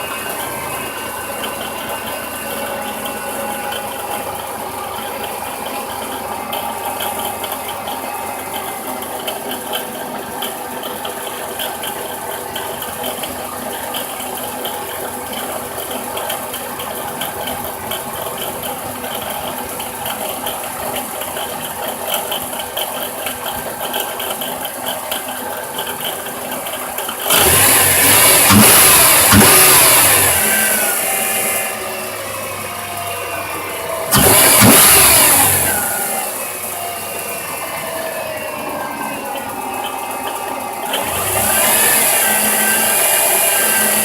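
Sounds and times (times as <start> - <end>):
alternator whir and rattle: 0.0 - 44.0
car engine idling and revving: 0.0 - 44.0.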